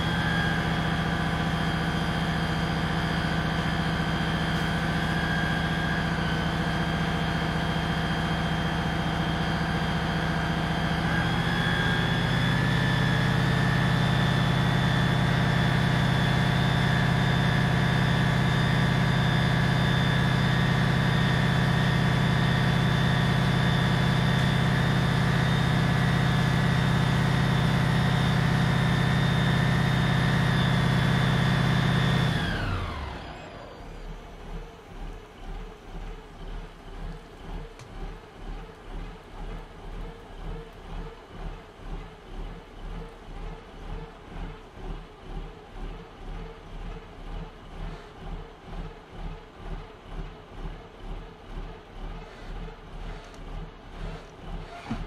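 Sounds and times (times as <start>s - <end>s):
fire engine running: 0.0s - 55.0s.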